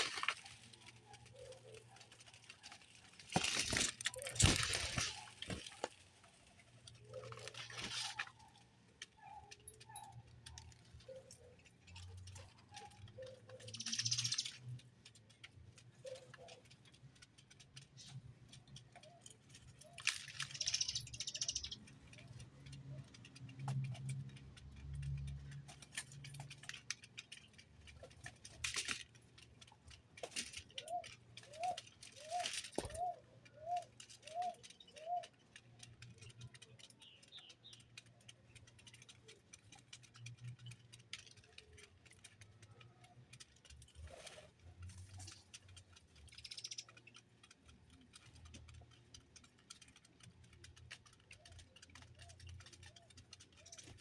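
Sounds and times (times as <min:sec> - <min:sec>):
birds pecking seed: 0:00.0 - 0:54.0.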